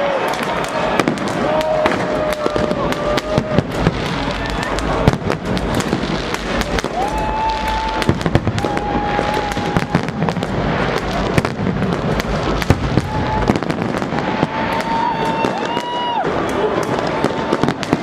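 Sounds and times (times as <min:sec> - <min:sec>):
fireworks bangs and crackles: 0:00.0 - 0:18.0
high whistling fireworks: 0:00.0 - 0:18.0.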